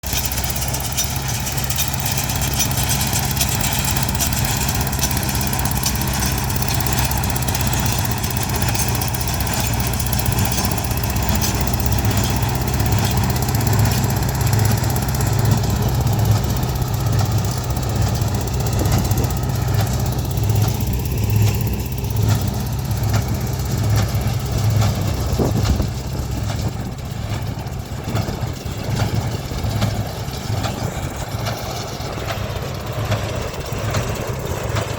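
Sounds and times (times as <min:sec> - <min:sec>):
tractor and baler engine drone: 0:00.0 - 0:34.9.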